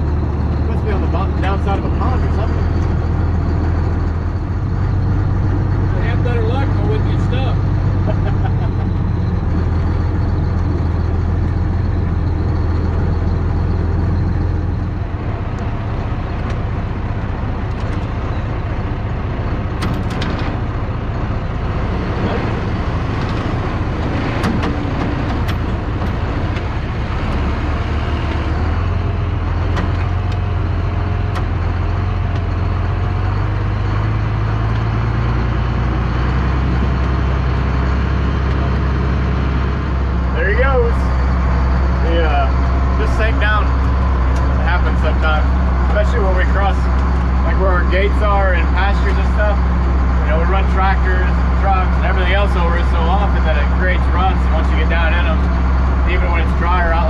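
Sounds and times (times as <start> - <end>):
engine drone: 0.0 - 57.0
towed equipment rattling: 0.0 - 57.0.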